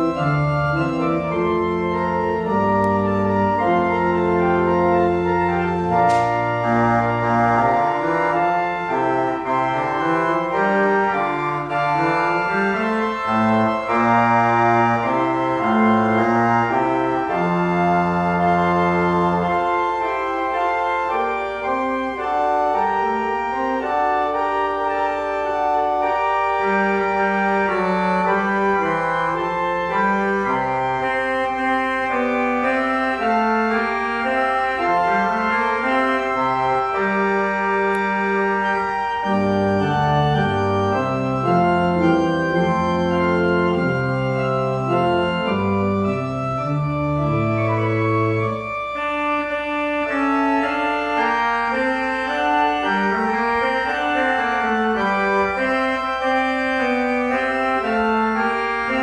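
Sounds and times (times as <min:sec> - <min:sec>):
church organ playing: 0:00.0 - 0:59.0.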